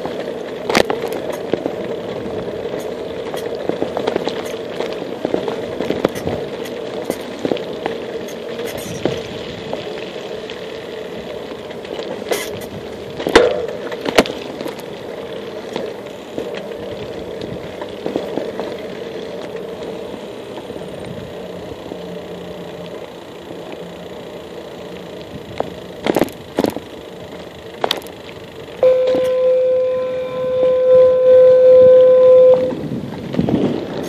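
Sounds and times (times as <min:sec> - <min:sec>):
bicycle tyre hum and rattle: 0:00.0 - 0:34.0
wheels knocking over path joints: 0:00.0 - 0:34.0.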